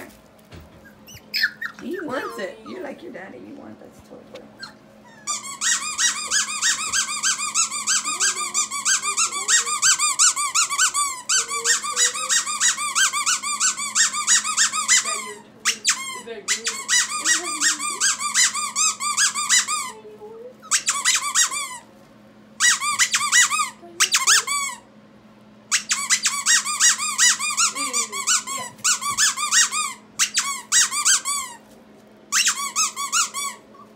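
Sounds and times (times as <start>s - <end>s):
squeaky dog toy squeaking: 0.8s - 2.4s, 4.6s - 20.0s, 20.6s - 21.9s, 22.6s - 24.9s, 25.7s - 31.6s, 32.3s - 33.8s.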